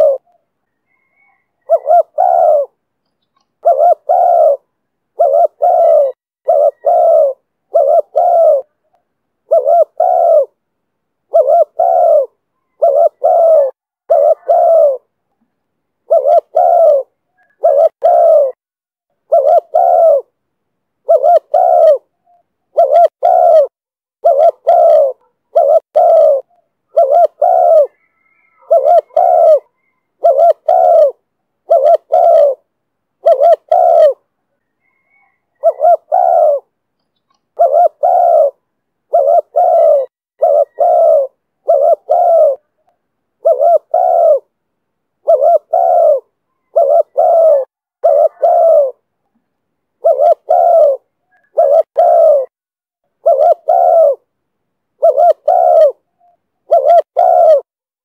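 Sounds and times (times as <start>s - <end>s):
dove cooing: 0.0s - 10.6s, 11.3s - 15.2s, 16.0s - 18.6s, 19.2s - 20.4s, 21.0s - 44.6s, 45.2s - 49.1s, 50.0s - 52.6s, 53.2s - 54.3s, 55.0s - 57.7s.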